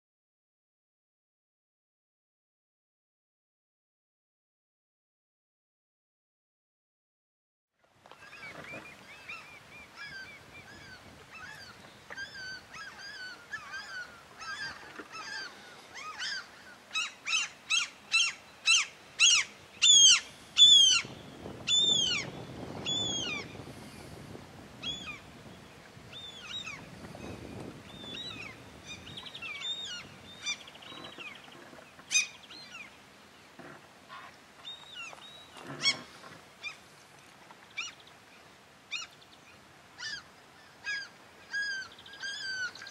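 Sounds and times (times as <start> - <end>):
birds calling over water: 8.1 - 42.9.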